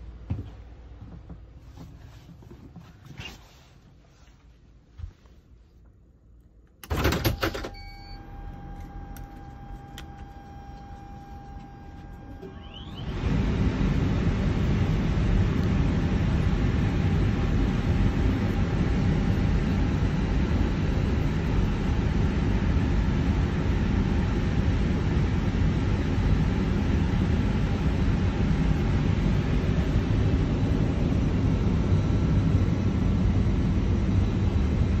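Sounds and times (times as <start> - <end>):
aircraft cockpit rumble and hiss: 0.0 - 35.0.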